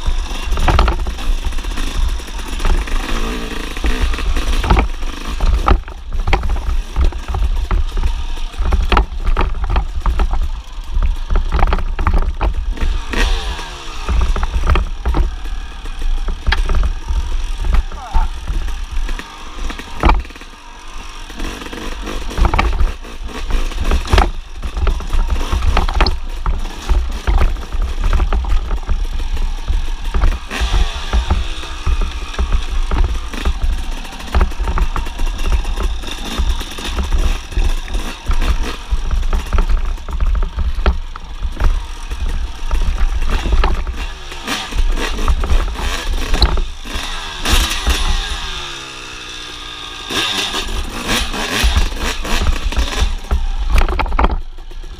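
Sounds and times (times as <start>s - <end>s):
knocks and rattles: 0.0s - 48.9s, 50.1s - 54.9s
dirt bike engine revving: 0.0s - 54.9s.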